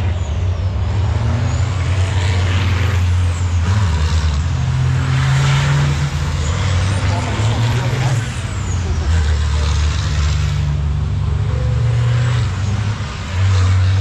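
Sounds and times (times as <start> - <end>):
truck diesel engine running: 0.0 - 12.1.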